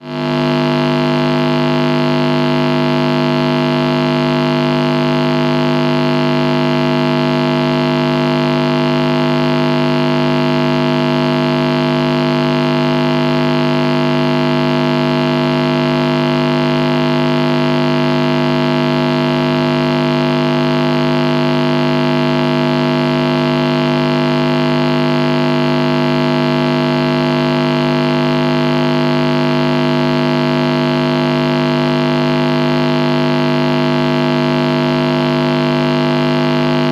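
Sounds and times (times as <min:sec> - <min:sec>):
guitar amplifier electrical buzz: 0:00.0 - 0:36.9.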